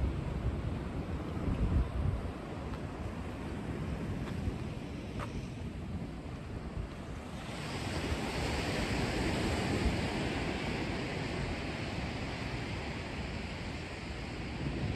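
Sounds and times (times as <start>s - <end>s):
ocean surf washing onto beach: 0.0s - 14.9s
wind buffeting microphone: 0.0s - 14.9s.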